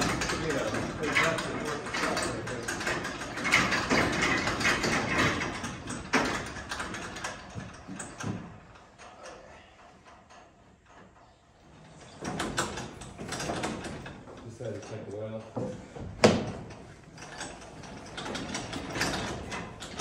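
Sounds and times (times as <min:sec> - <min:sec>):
clanks of climbing a steel ladder: 0:00.0 - 0:20.0.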